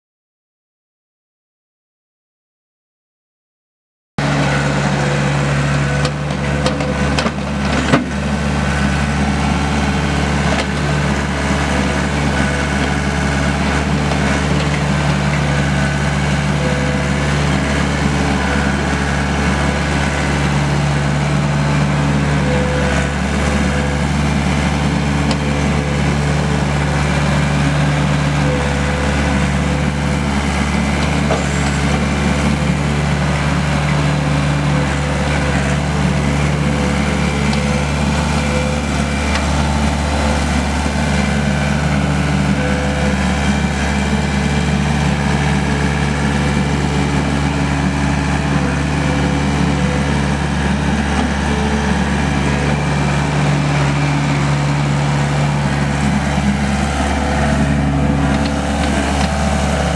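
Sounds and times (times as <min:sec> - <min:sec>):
diesel engine running steadily: 0:04.2 - 0:59.9.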